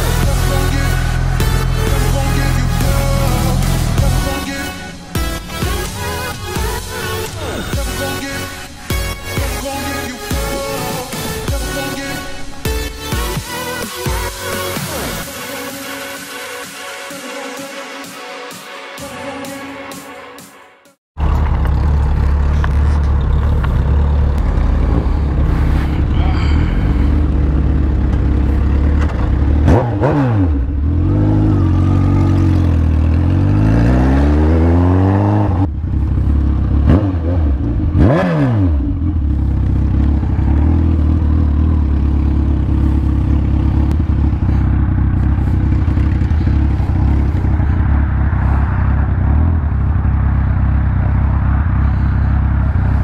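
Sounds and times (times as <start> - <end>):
motorcycle engine accelerating: 0.0 - 15.2, 21.2 - 53.0.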